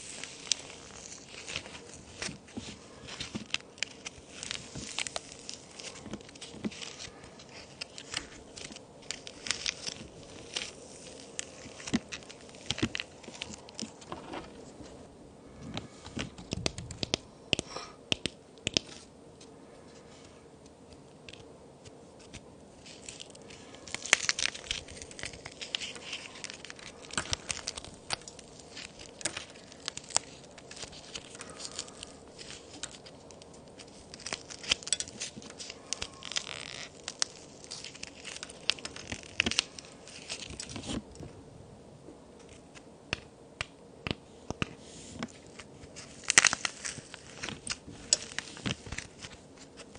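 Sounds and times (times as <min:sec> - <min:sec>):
toy cookies snapping and crumbling: 0:03.0 - 0:14.1, 0:15.7 - 0:19.1, 0:22.2 - 0:41.2, 0:42.4 - 0:49.9.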